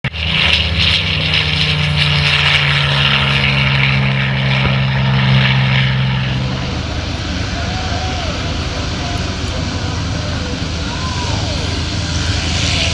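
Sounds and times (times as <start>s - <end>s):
propeller aircraft engine drone: 0.0s - 12.9s.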